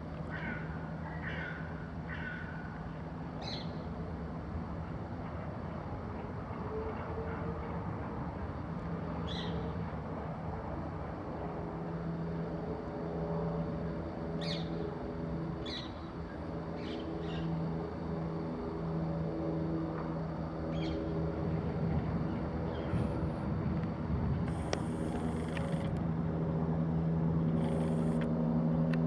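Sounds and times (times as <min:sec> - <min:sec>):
engine droning: 0:02.8 - 0:29.0.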